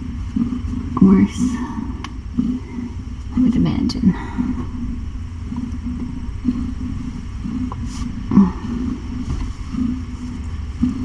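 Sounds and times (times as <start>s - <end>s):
cat purring: 0.4s - 11.0s.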